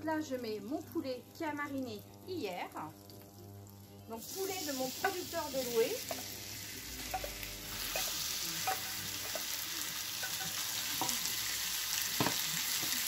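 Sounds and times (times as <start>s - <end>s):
chicken sizzling in pan: 0.4s - 13.0s.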